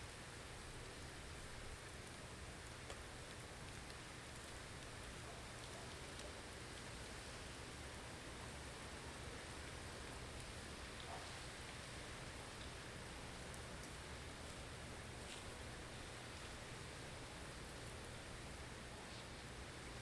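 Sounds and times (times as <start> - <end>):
faint scattered ticks: 0.9 - 20.0.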